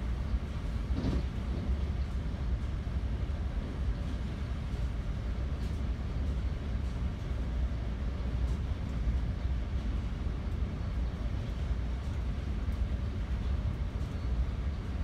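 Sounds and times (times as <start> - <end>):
train interior low rumble: 0.0 - 15.0.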